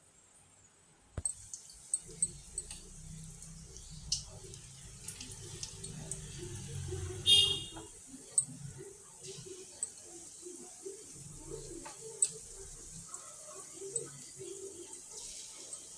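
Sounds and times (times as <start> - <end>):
oil popping and crackling: 1.2 - 15.9
vegetable slices deep-frying in oil: 1.2 - 15.9.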